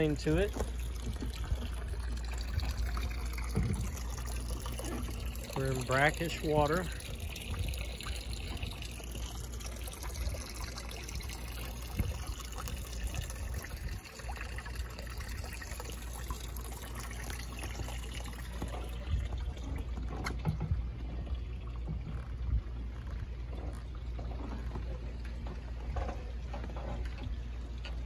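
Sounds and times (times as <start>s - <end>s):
low steady rumble: 0.0s - 28.0s
water lapping at boat hull: 0.0s - 28.0s.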